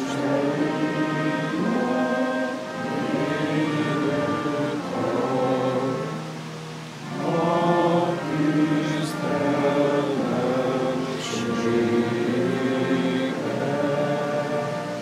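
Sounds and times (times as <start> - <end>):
choir singing with orchestra: 0.0 - 15.0.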